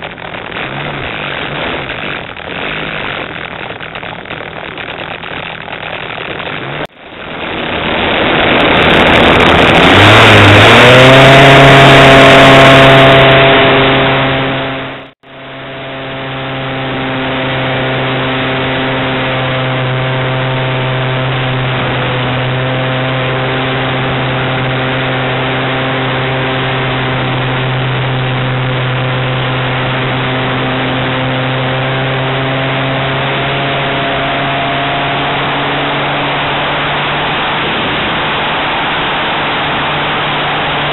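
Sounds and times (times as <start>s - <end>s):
air rushing on microphone: 0.0s - 11.7s, 16.8s - 40.9s
model airplane engine: 0.0s - 40.9s.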